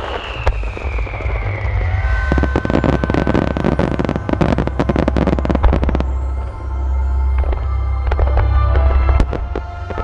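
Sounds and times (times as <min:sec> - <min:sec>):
fireworks crackling and popping: 0:00.0 - 0:06.7, 0:07.4 - 0:10.0
low rumble: 0:00.2 - 0:10.0.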